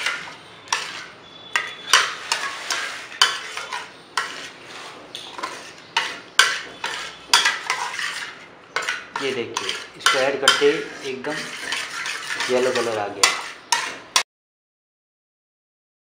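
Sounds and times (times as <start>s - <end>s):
spoon scraping a steel pan: 0.0s - 14.2s.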